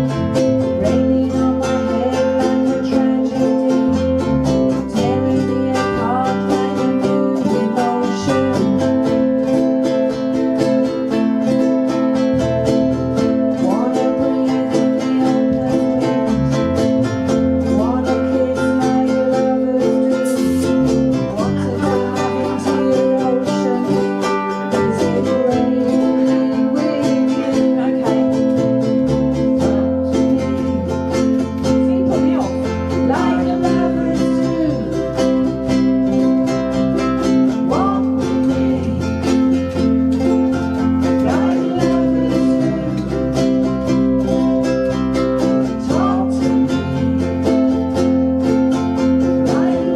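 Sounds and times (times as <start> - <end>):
low bass line: 0.0 - 49.9
ukuleles strumming chords: 0.0 - 49.9.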